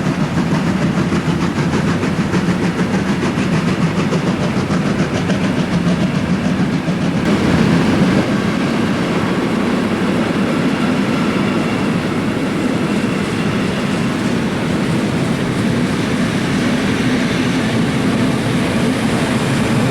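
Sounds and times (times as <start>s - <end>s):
train wheels rumbling on rails: 0.0s - 19.9s.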